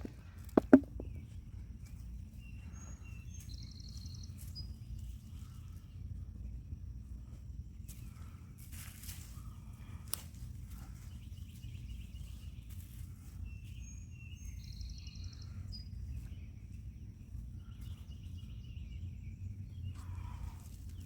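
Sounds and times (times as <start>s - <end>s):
birds chirping: 0.0s - 8.5s, 9.4s - 21.0s
low outdoor rumble: 0.0s - 21.0s.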